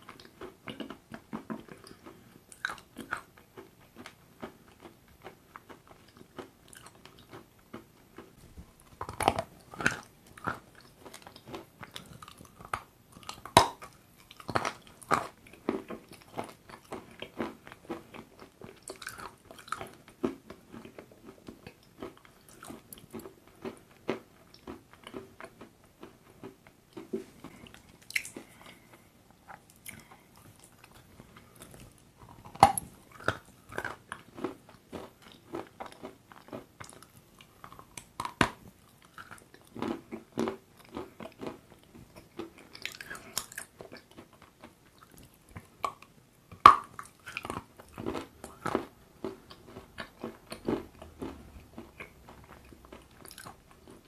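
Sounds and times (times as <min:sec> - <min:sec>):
chewing crunchy chalk: 0:00.1 - 0:54.0.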